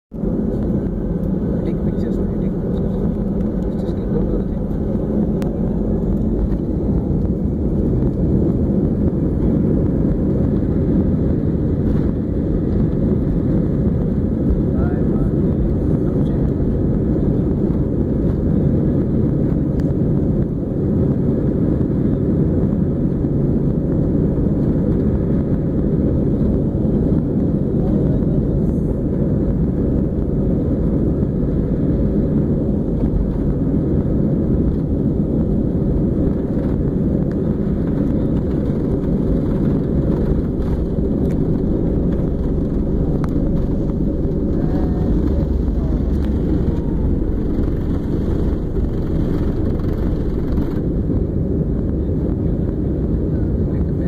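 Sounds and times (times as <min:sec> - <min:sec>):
airliner cabin low rumble: 0:00.1 - 0:54.0.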